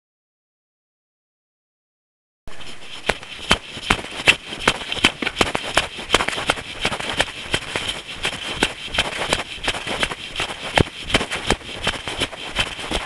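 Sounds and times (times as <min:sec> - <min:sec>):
running footsteps: 0:02.5 - 0:13.0.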